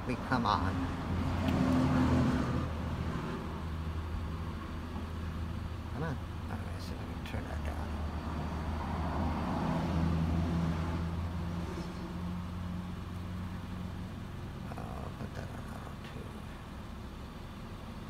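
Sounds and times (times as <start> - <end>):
engine idling hum: 0.0 - 18.0.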